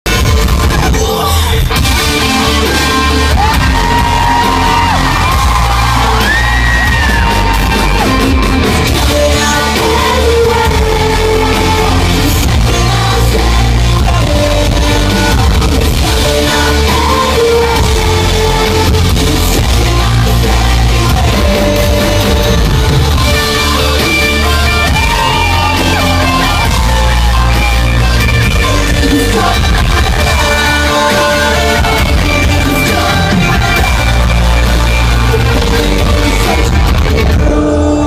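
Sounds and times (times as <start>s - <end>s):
live rock band playing: 0.0s - 38.0s
heavy booming bass: 0.1s - 38.0s
person singing: 0.1s - 38.0s.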